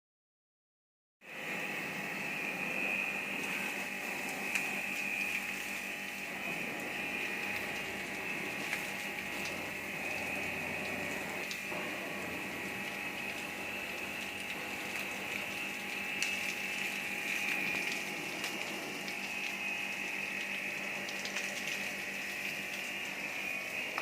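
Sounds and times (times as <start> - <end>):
small electric motor whining: 1.3 - 24.0
hiss: 3.3 - 24.0.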